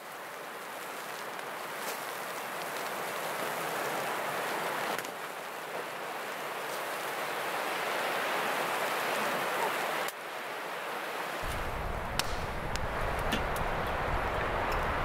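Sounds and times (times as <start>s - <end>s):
wind rushing through forest: 0.0s - 15.0s.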